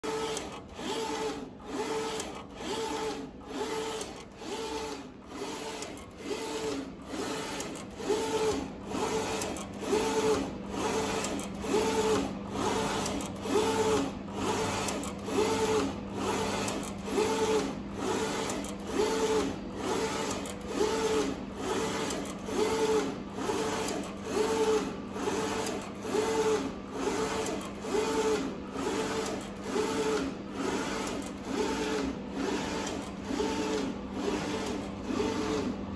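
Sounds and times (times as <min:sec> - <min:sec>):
printer hum: 0:00.0 - 0:35.9.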